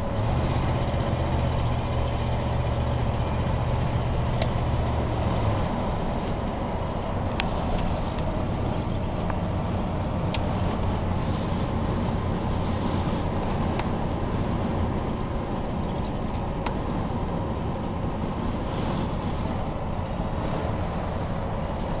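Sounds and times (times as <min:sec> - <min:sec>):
exhaust leak ticking: 0:00.0 - 0:21.9
truck engine running: 0:00.0 - 0:22.0.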